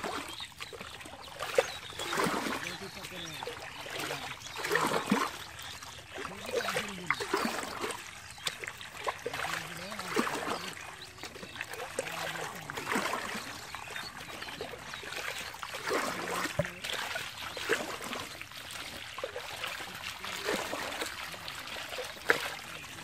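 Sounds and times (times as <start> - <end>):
muddy water trickling and pouring: 0.0 - 23.0
small fish splashing: 0.0 - 23.0.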